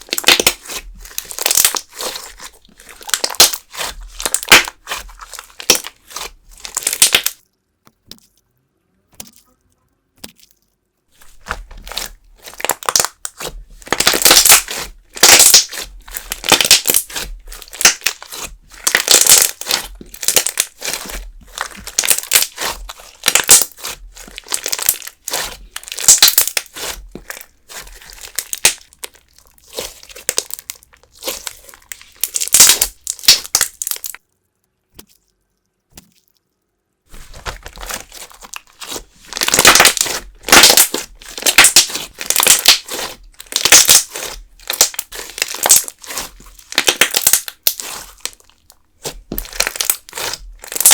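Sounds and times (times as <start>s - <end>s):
slime squishing: 0.0s - 8.5s, 9.1s - 34.2s, 37.1s - 50.9s.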